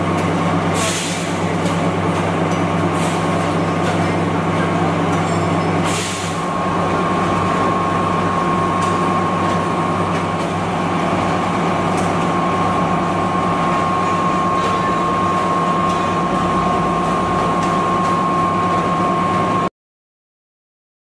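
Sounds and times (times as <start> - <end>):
oil press mechanical drone: 0.0 - 19.7.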